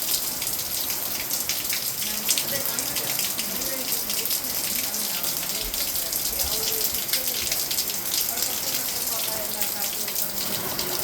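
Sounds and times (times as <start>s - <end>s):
heavy rain pouring: 0.0s - 11.0s
raindrops striking close by: 0.0s - 11.0s.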